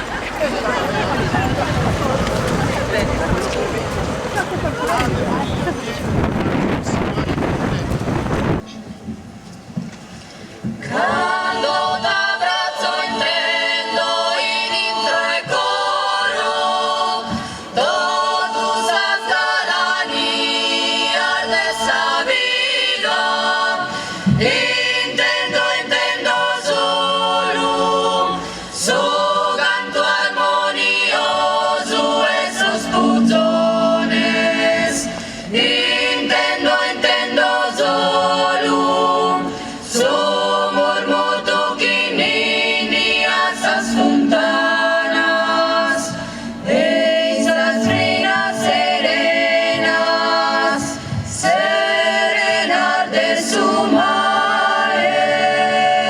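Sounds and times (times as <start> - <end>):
vocal group singing in harmony: 0.0 - 8.6, 10.7 - 56.0.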